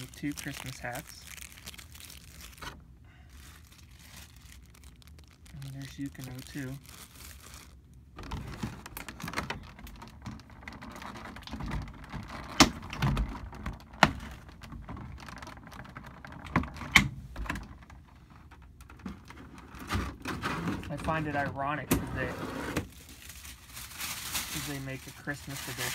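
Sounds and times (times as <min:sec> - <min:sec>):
plastic packaging crinkling: 0:00.0 - 0:16.9, 0:20.9 - 0:25.9.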